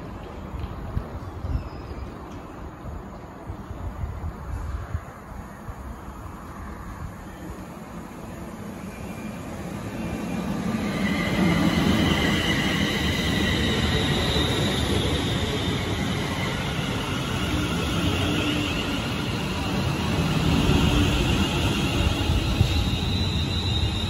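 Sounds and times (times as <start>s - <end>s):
train rolling rumble: 0.0s - 24.0s.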